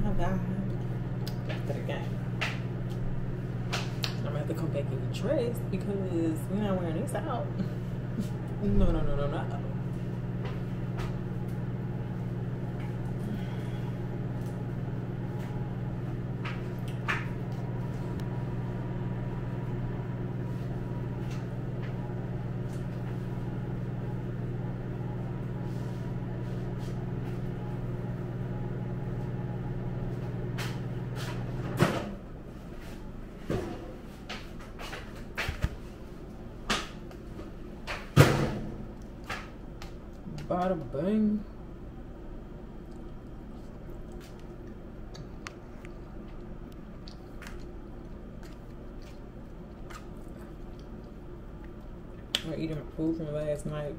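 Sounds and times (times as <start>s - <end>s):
microwave oven humming: 0.0s - 53.9s.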